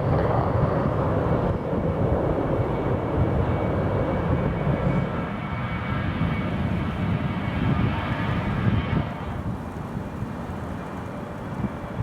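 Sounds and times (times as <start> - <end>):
faint high jet whine: 0.0 - 12.0
jet engines roaring at takeoff: 0.0 - 12.0.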